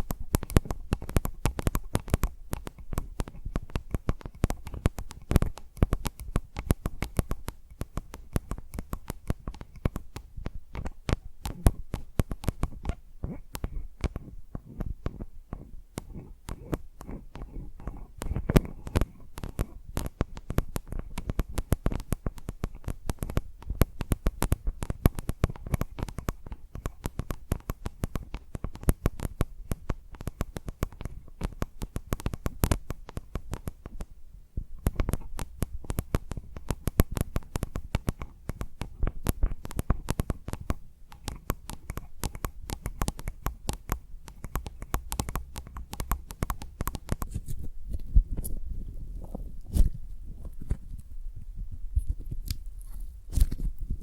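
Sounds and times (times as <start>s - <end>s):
fingers tapping on microphone: 0.0s - 54.0s.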